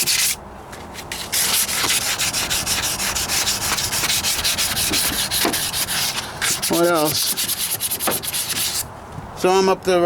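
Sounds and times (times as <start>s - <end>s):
sanding block rasping: 0.0s - 0.4s, 1.0s - 8.9s.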